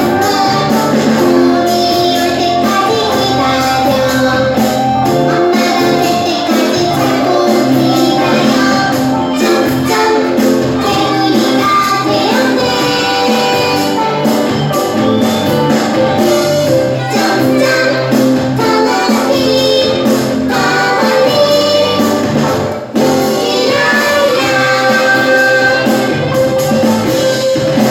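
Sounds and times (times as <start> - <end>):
bouncy backing music: 0.0 - 27.9
children singing: 0.0 - 27.9.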